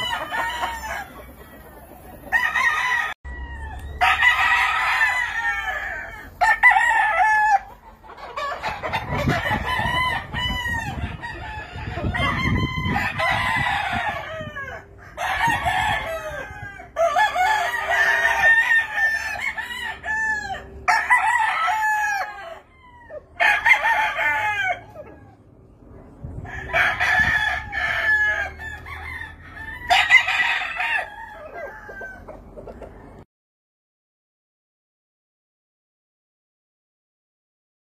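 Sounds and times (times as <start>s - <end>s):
roosters crowing: 0.0s - 33.2s.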